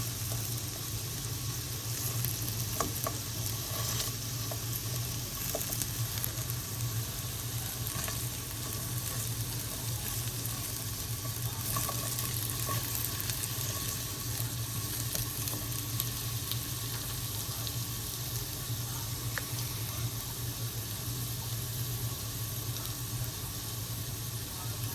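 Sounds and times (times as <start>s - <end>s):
vegetables sizzling in a pan: 0.0s - 24.9s.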